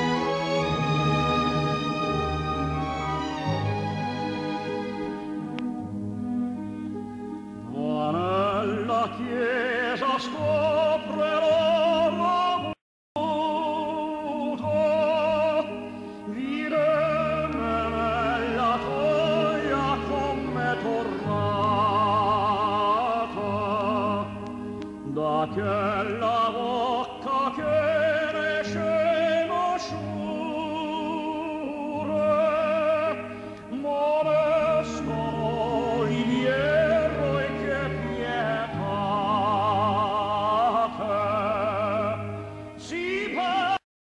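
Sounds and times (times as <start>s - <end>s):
orchestral accompaniment: 0.0s - 9.7s, 14.8s - 43.5s
operatic singing: 7.7s - 43.8s.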